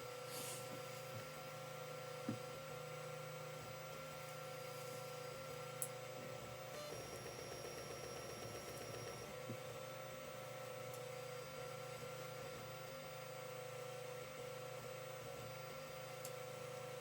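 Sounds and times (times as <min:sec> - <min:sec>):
three-d printer whine: 0:00.0 - 0:17.0.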